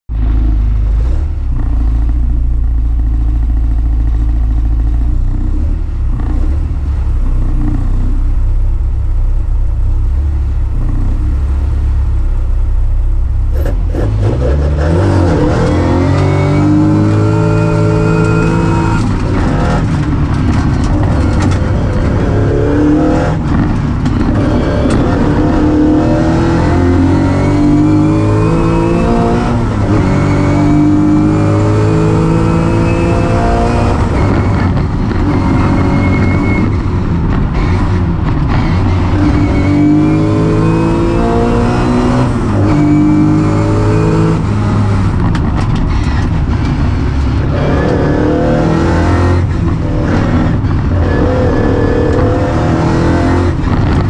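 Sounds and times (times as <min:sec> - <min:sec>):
race car engine revving: 0:09.6 - 0:54.0.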